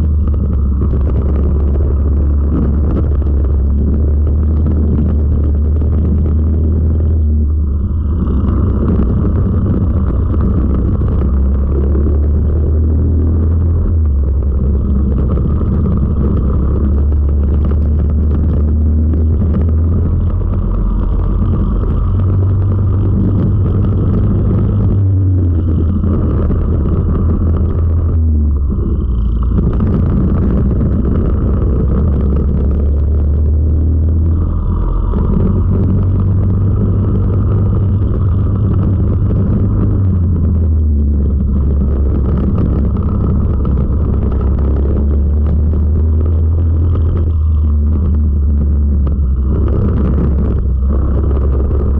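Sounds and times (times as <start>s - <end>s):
racing kart engine: 0.0s - 51.9s.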